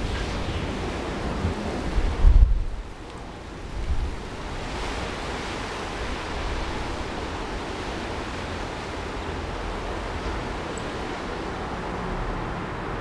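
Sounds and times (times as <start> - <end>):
low rumble of gusts: 0.0 - 13.0
strong wind rushing: 0.0 - 13.0.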